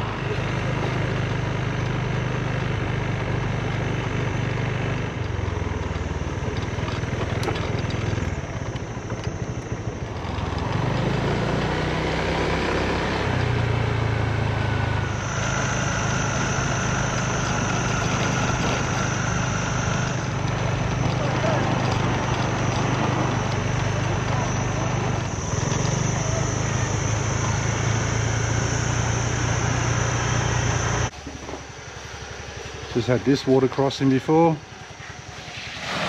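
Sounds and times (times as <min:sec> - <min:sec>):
scooter engine running: 0:00.0 - 0:35.7.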